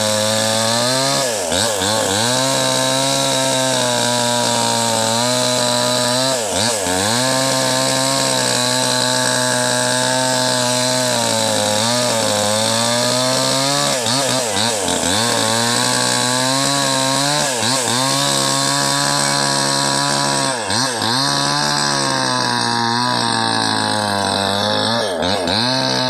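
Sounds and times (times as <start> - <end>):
chainsaw running at high speed: 0.0 - 26.0.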